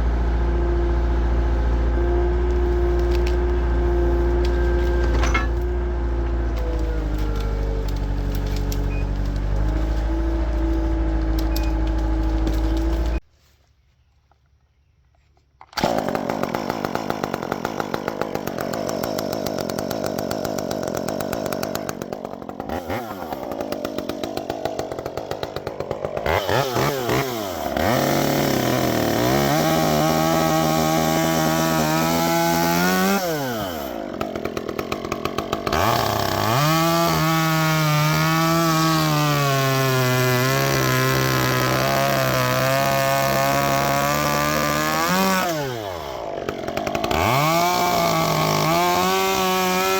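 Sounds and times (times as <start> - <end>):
chainsaw revving: 0.0 - 13.2, 15.8 - 49.9.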